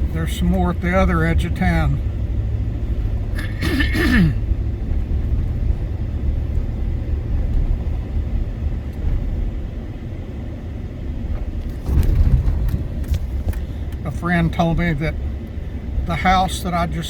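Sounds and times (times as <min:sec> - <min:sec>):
truck road and engine rumble: 0:00.0 - 0:17.0.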